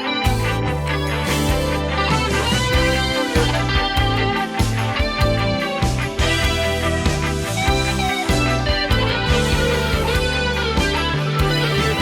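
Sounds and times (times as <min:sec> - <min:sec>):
guitar and keyboard instrumental: 0:00.0 - 0:12.0.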